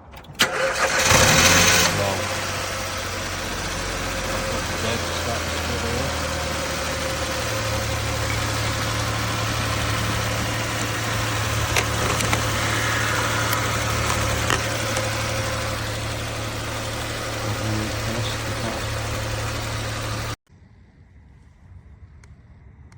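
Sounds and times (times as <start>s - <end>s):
vehicle engine idling: 0.0s - 20.4s.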